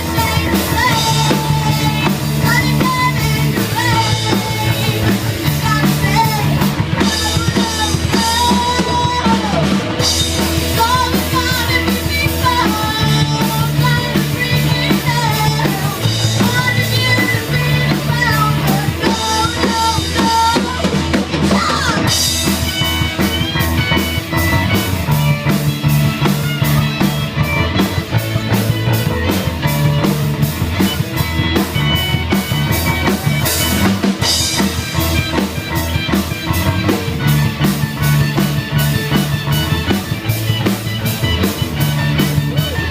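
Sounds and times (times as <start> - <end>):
bass line: 0.0 - 42.9
drum kit beat: 0.0 - 42.9
sliding lead melody: 0.0 - 42.9.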